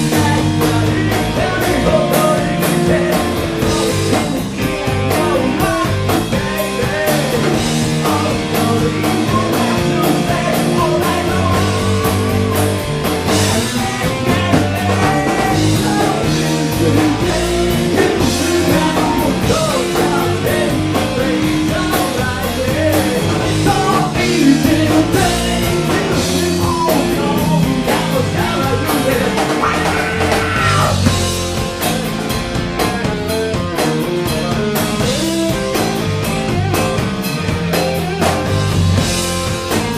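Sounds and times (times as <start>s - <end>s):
live rock band playing: 0.0s - 39.9s
wavering lead guitar line: 0.0s - 39.9s.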